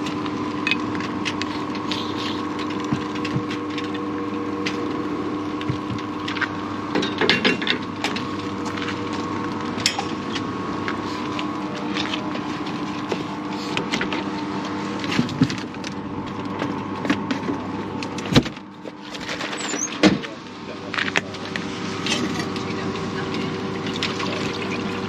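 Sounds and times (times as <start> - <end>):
espresso machine hum: 0.0 - 25.0.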